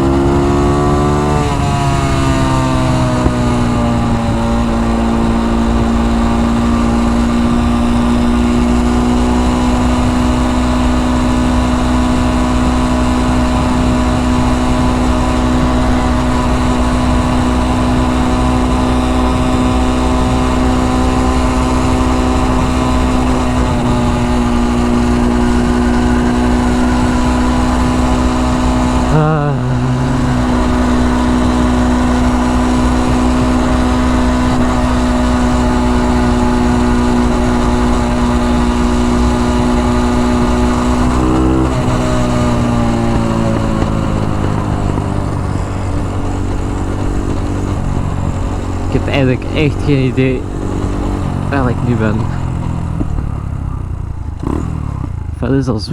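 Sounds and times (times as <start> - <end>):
motorcycle engine cruising: 0.0 - 55.9.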